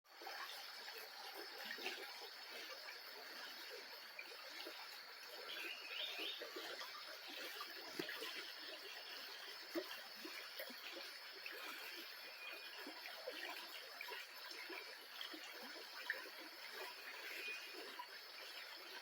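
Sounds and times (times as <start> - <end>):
trickling water: 0.1 - 19.0.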